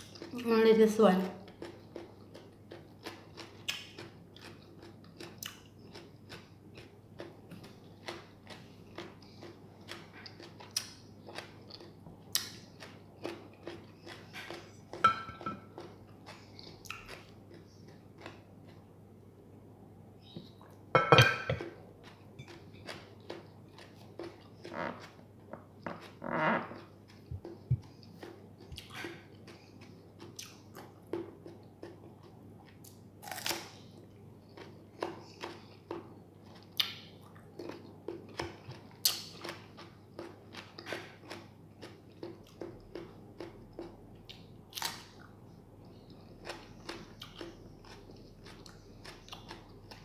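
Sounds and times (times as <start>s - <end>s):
person chewing crisp cucumber: 1.4s - 19.1s, 21.6s - 50.0s.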